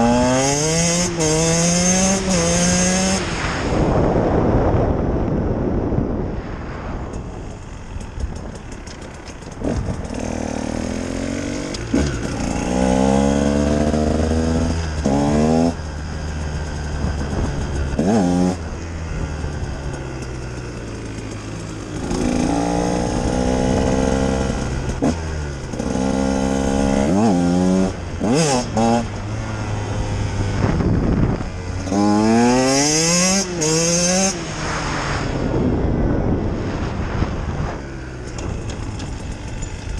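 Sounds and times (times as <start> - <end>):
two-stroke motorcycle engine revving: 0.0 - 4.0, 7.7 - 39.9.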